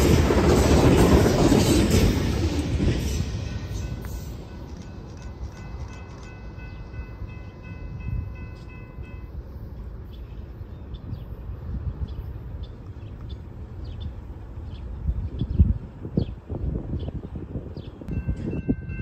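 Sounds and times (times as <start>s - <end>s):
distant train rumble: 0.0s - 19.0s.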